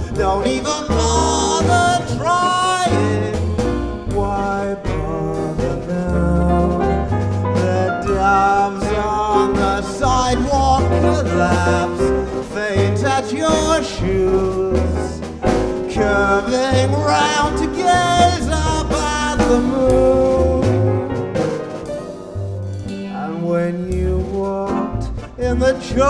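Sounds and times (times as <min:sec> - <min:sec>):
man singing into a microphone: 0:00.0 - 0:15.3, 0:15.9 - 0:21.2, 0:23.1 - 0:26.0
band playing: 0:00.0 - 0:26.0
low bass line: 0:00.0 - 0:26.0.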